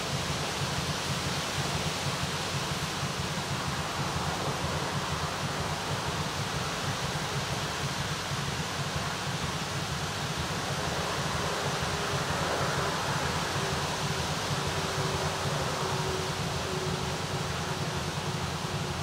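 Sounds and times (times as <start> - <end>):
distant diesel train hum: 0.0 - 19.0.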